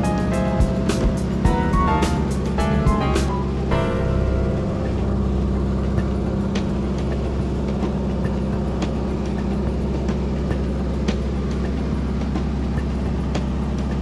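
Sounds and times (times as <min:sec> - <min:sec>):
plane engine and propeller droning: 0:00.0 - 0:14.0.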